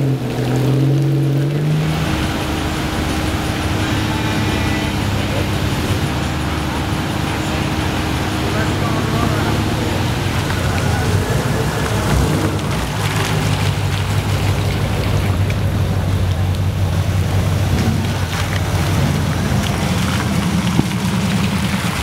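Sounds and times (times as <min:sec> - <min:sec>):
rain falling: 0:00.0 - 0:22.0
truck engines rumbling: 0:00.0 - 0:22.0.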